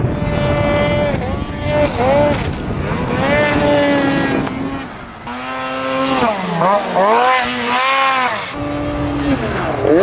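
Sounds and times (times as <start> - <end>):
snowmobile engines revving: 0.0 - 10.0.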